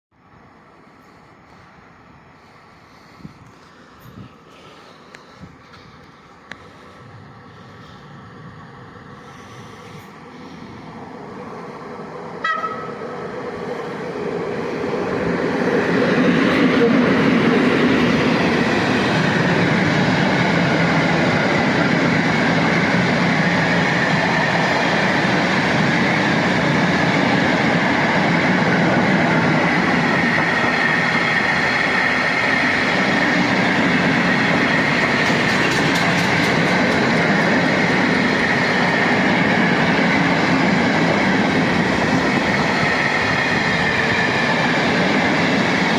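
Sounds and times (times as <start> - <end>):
freight train rumbling past: 0.2 - 45.9.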